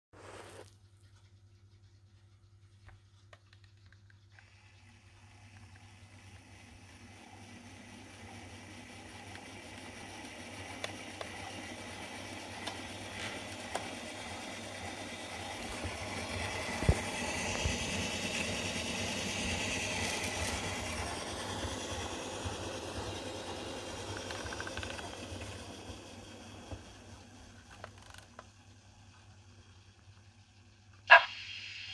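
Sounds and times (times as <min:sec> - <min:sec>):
model locomotive running on track: 0:00.8 - 0:31.9.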